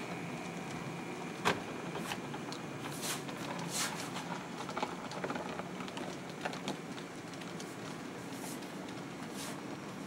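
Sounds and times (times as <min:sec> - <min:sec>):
model train rolling on track: 0:00.0 - 0:10.0
wheels clicking: 0:00.0 - 0:10.0.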